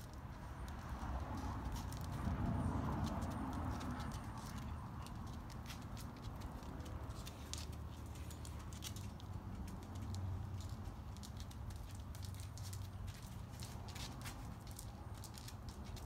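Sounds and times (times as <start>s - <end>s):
tortoise claws tapping on concrete: 0.0s - 16.0s.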